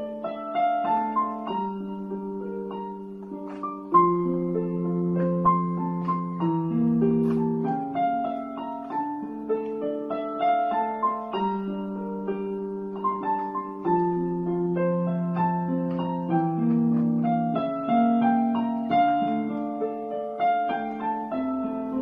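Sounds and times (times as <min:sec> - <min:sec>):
electronic keyboard piano melody: 0:00.0 - 0:22.0.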